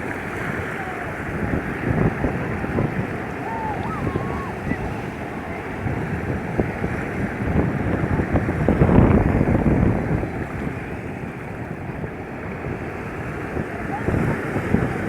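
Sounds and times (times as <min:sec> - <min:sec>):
waves washing on beach: 0:00.0 - 0:15.0
wind buffeting microphone: 0:00.0 - 0:15.0.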